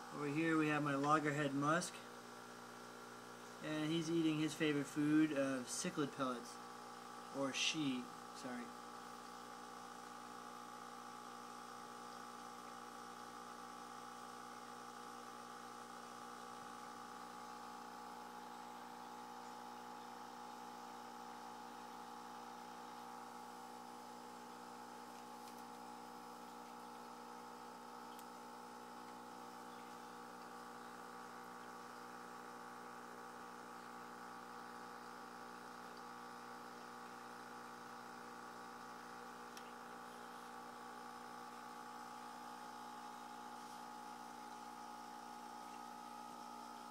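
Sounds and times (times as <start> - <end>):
aquarium equipment hum: 0.0 - 46.9.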